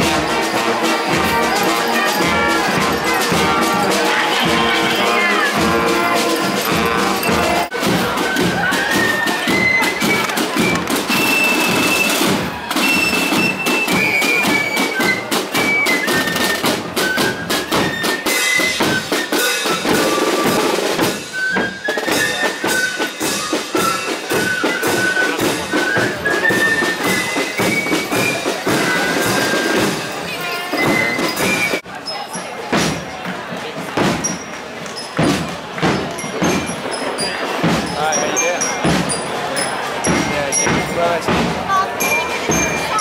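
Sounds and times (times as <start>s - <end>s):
marching band playing: 0.0s - 43.0s.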